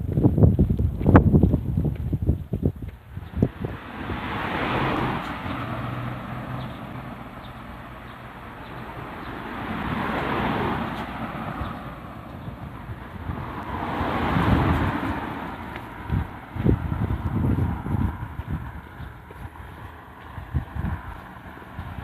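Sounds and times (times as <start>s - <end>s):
road vehicles passing: 0.0s - 22.0s.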